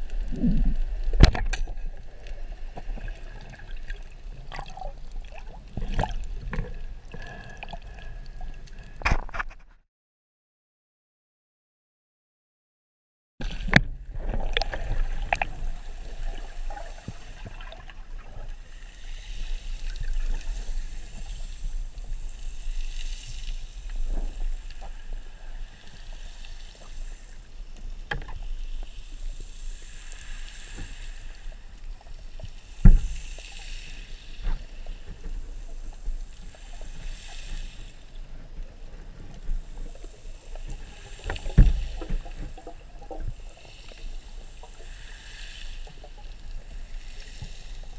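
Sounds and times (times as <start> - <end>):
muffled underwater water rush: 0.0 - 9.4, 13.4 - 47.9.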